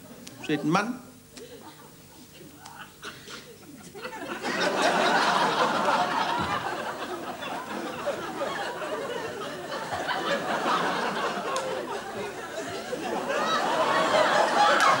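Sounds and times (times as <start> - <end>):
audience laughing: 1.4 - 15.0.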